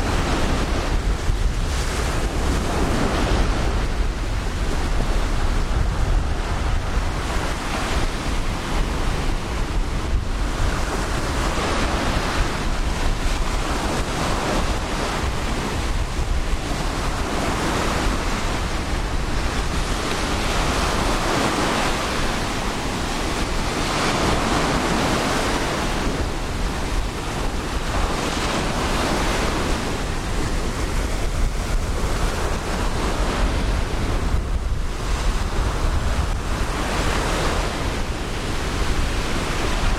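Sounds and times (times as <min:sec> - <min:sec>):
waves breaking on beach: 0:00.0 - 0:39.9
wind buffeting microphone: 0:00.0 - 0:39.9.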